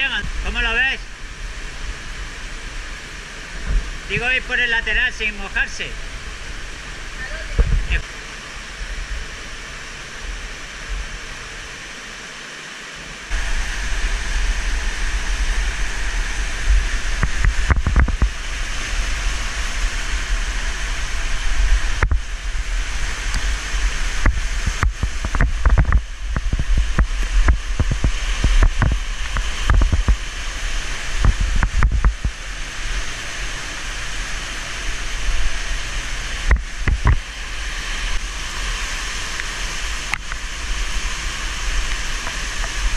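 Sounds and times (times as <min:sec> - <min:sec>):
heavy low rumble: 0:00.0 - 0:11.4, 0:13.3 - 0:42.9
waterfall rushing: 0:00.0 - 0:42.9.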